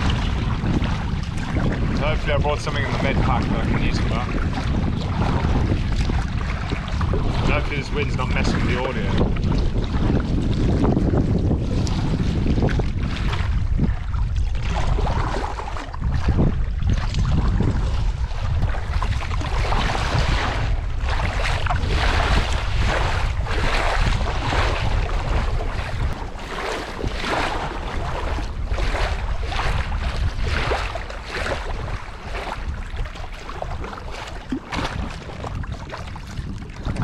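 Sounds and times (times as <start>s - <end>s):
paddle strokes splashing in water: 0.0s - 37.0s
wind buffeting microphone: 0.0s - 37.0s.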